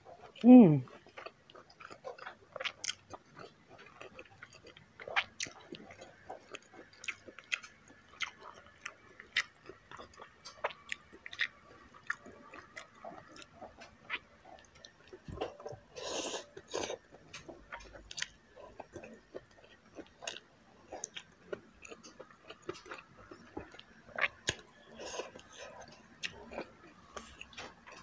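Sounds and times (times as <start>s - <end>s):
person chewing and lip smacking: 0.0s - 28.0s.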